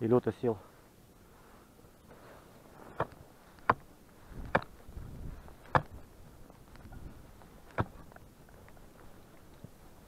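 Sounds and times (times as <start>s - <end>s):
snow crunching: 0.5s - 10.0s.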